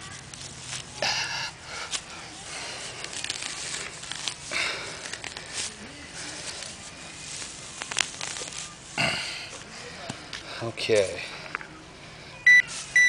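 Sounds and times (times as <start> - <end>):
dirt and roots crunching: 0.0 - 11.5.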